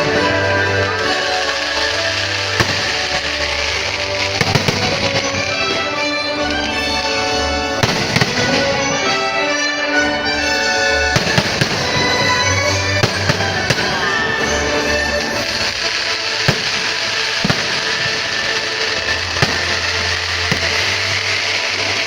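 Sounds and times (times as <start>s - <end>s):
fireworks bursting: 0.0s - 22.0s
loud music playing: 0.0s - 22.0s.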